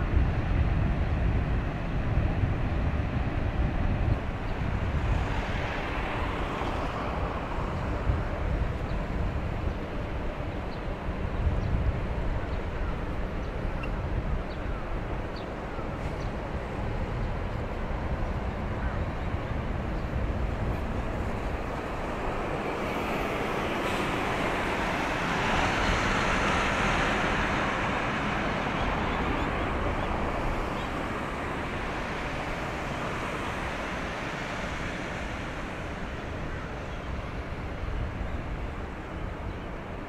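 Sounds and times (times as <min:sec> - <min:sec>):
ship engine low rumble: 0:00.0 - 0:40.0
water rushing along hull: 0:00.0 - 0:40.0.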